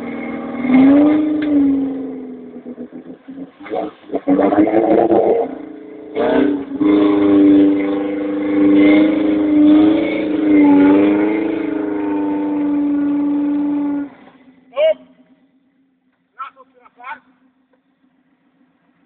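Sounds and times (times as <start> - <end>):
off-road vehicle engine revving: 0.0 - 18.6.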